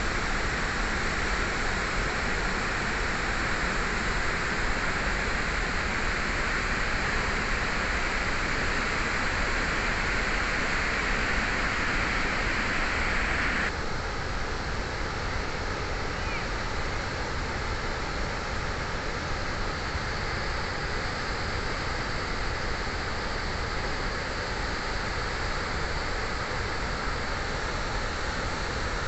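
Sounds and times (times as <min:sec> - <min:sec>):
water rushing from spillway: 0:00.0 - 0:29.0.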